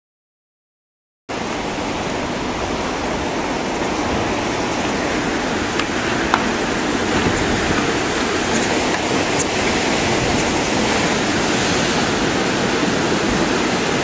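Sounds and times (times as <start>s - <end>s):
seawater rushing and churning: 1.3s - 14.0s.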